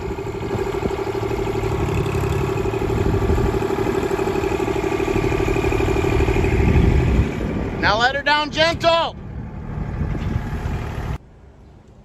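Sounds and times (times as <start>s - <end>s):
steady whine: 0.0s - 11.2s
tractor diesel engine running: 0.0s - 11.2s.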